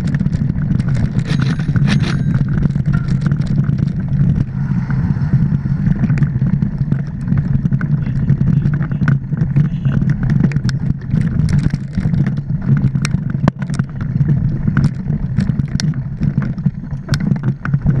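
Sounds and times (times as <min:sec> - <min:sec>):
bike clicks and rattles: 0:00.0 - 0:04.5, 0:05.4 - 0:18.0
wind and ground rumble: 0:00.0 - 0:18.0.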